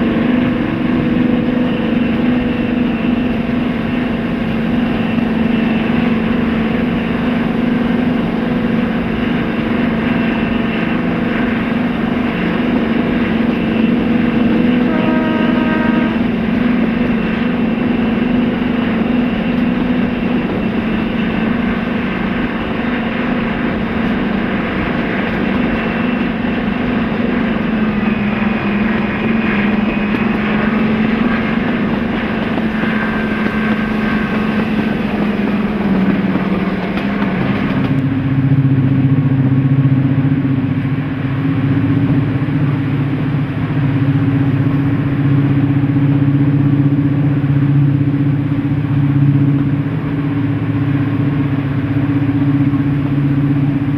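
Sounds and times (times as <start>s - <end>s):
diesel locomotive engines running: 0.0s - 53.9s.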